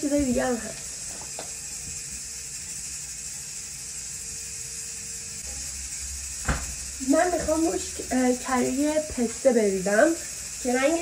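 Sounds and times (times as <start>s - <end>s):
room tone hiss: 0.0s - 11.0s.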